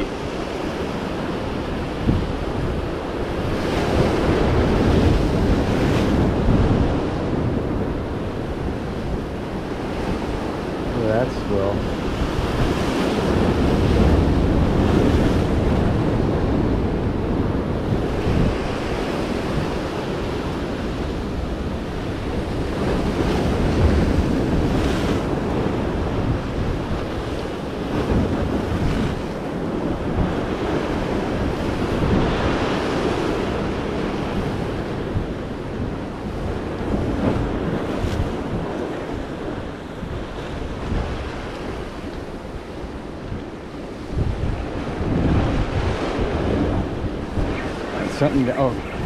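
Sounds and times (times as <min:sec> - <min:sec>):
ocean surf breaking on rocks: 0:00.0 - 0:49.0
wind buffeting microphone: 0:00.0 - 0:49.0.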